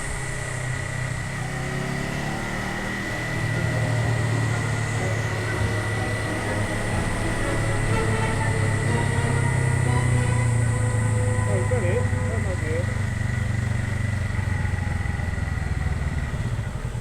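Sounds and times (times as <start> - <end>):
high whine: 0.0 - 16.6
motorcycle engine running: 0.0 - 17.0
road noise: 0.0 - 17.0.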